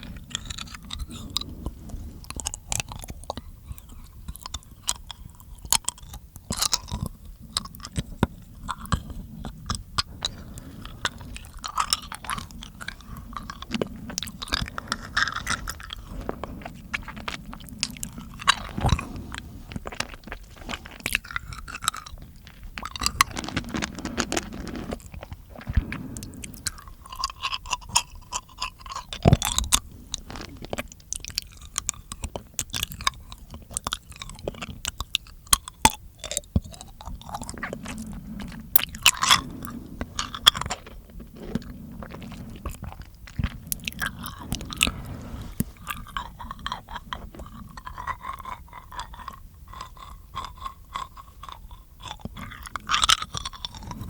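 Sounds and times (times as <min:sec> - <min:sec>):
wet mouth clicks and smacks: 0:00.0 - 0:54.0.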